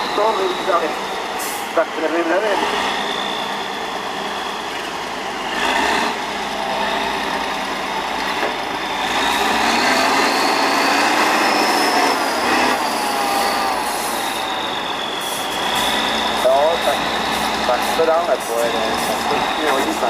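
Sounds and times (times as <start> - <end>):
truck diesel engine under load: 0.0 - 20.0.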